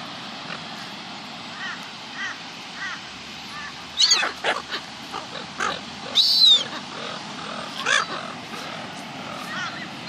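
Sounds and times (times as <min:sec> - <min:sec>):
gulls calling harshly: 0:01.4 - 0:10.0.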